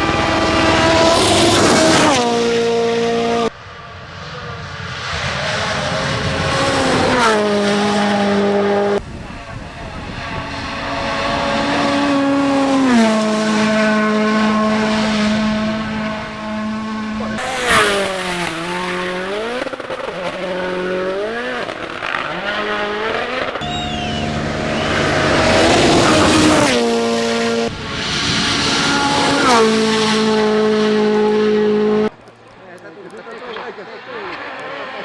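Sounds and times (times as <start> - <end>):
rally car engines at full throttle: 0.0 - 35.0.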